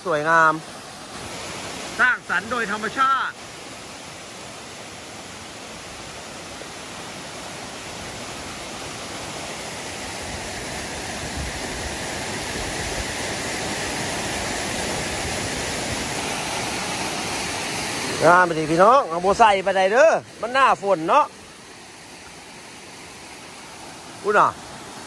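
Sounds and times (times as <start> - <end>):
waterfall rushing into a pool: 0.0 - 25.0.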